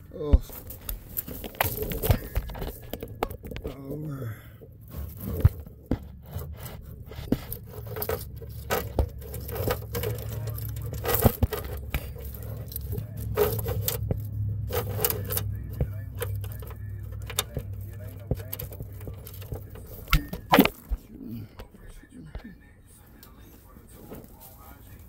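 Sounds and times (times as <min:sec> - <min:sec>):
metal parts and tools clinking: 0:00.0 - 0:20.9
steady low hum: 0:00.0 - 0:25.0.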